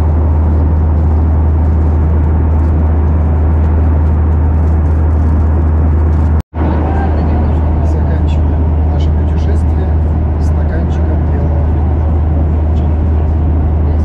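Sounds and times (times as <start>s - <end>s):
airliner cabin hum: 0.0s - 14.0s.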